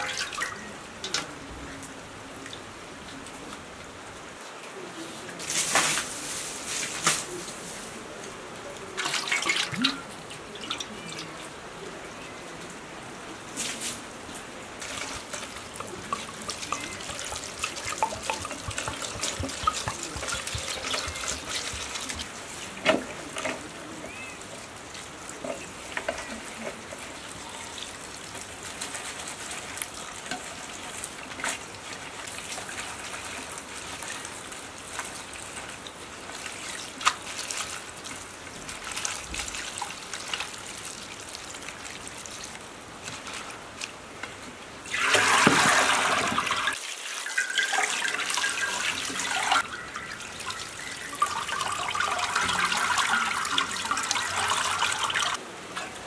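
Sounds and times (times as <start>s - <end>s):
hands rinsing greens: 0.0s - 1.4s, 8.6s - 11.4s, 13.5s - 56.0s
water trickling and splashing: 0.0s - 4.0s, 5.3s - 12.7s, 13.4s - 56.0s.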